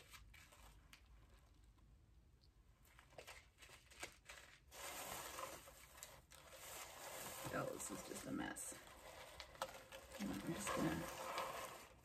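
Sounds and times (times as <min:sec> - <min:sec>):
soft crinkling rustle: 0:00.0 - 0:12.0.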